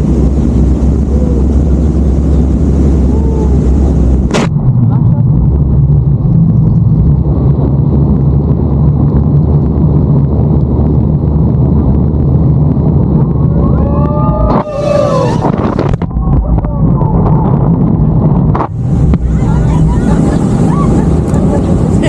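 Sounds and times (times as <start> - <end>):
motorboat engine droning: 0.0 - 16.2, 17.7 - 22.0.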